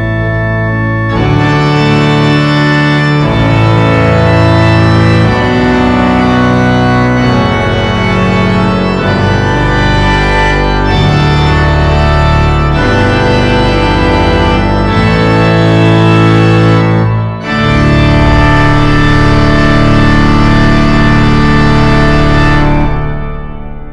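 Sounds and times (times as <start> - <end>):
organ playing slow chords: 0.0 - 23.9.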